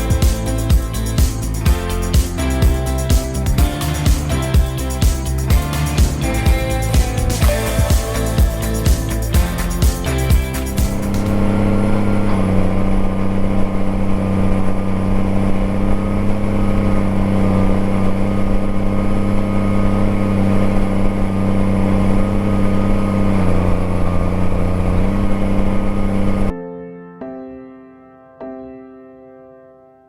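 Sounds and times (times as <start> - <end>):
tractor engine humming: 0.0 - 26.5.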